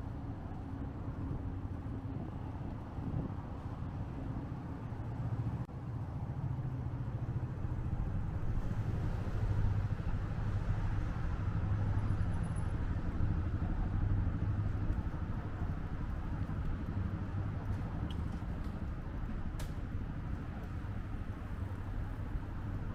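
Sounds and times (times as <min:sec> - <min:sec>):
road noise: 0:00.0 - 0:22.9.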